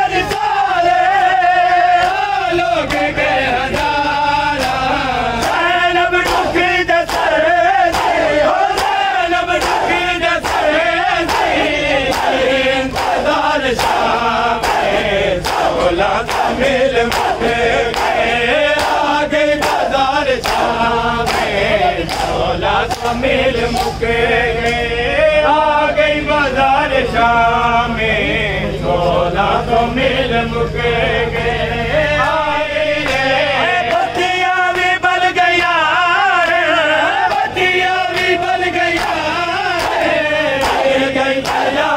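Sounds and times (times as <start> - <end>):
rhythmic chest beating slaps: 0.0 - 25.7, 32.2 - 41.9
men chanting a lament in unison: 0.0 - 41.9.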